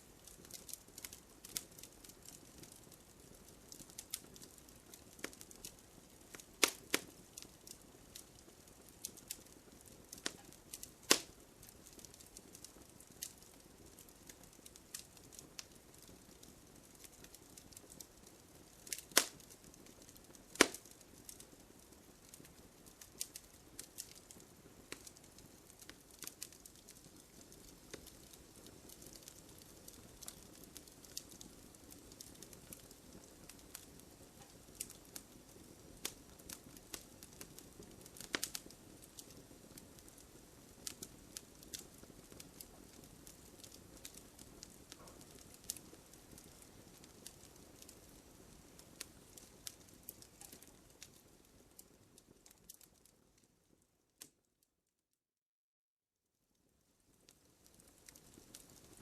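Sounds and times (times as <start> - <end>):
wood fire crackling and popping: 0.0 - 54.4, 56.6 - 59.0.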